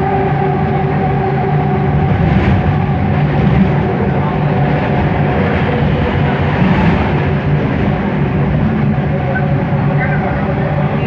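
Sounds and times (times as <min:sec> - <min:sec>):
metro train motor hum: 0:00.0 - 0:11.0
train ride rumble: 0:00.0 - 0:11.0.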